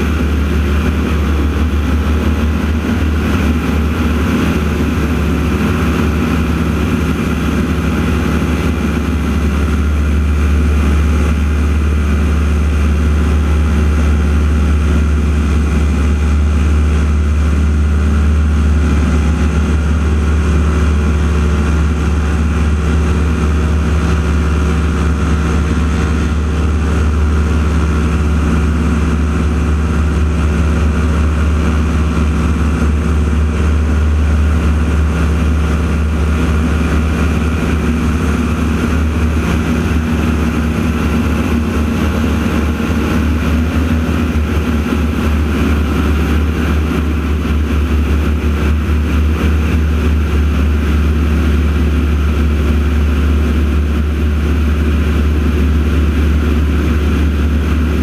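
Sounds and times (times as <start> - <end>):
aircraft engine droning: 0.0 - 58.0
propeller hum: 0.0 - 58.0.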